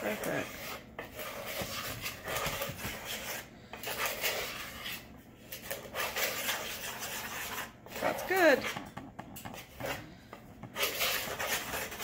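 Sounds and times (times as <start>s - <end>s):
spatula scraping plastic bowl: 0.0s - 12.0s.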